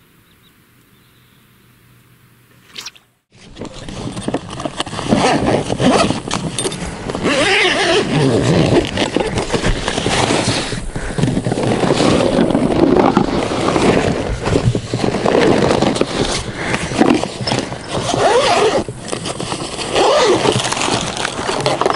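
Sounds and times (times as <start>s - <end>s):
stiff plastic fabric rustling: 3.4s - 21.9s.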